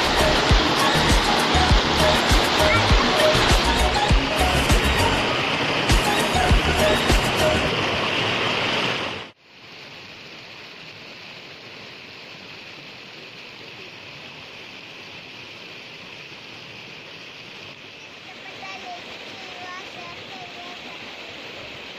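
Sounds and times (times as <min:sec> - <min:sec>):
small waterfall rushing: 0:00.0 - 0:21.9.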